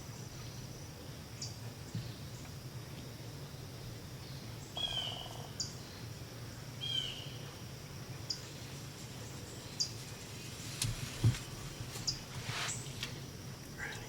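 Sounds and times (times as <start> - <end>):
steady low hum: 0.0 - 14.0
small birds chirping: 0.1 - 14.0.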